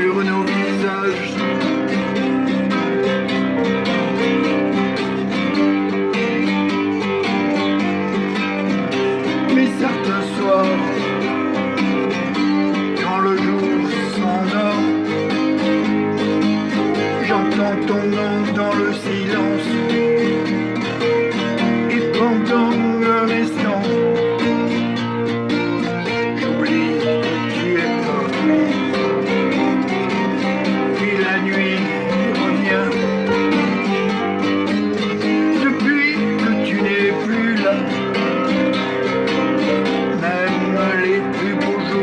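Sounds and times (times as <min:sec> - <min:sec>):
acoustic guitar music: 0:00.0 - 0:42.0
sustained tones: 0:00.0 - 0:42.0.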